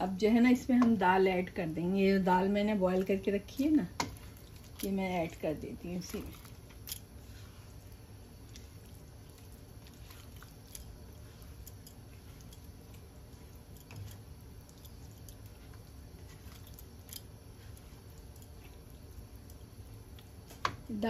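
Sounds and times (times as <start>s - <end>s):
low steady hum: 0.0s - 21.0s
spatula stirring wet food: 0.0s - 21.0s.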